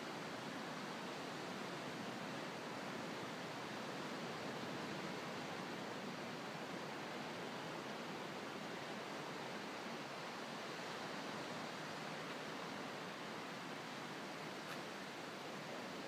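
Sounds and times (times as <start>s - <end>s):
distant ocean surf: 0.0s - 16.0s.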